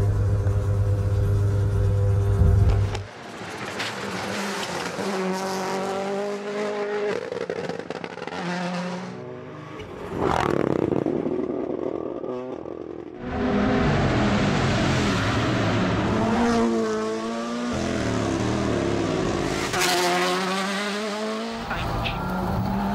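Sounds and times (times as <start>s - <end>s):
rally car engines revving: 1.0s - 22.9s.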